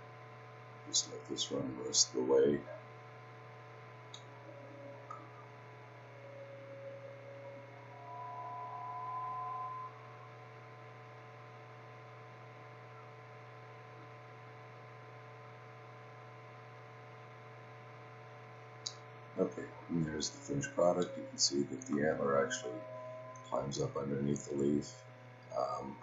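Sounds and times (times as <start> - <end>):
faint steady tones: 0.0 - 26.0
low electrical hum: 0.0 - 26.0.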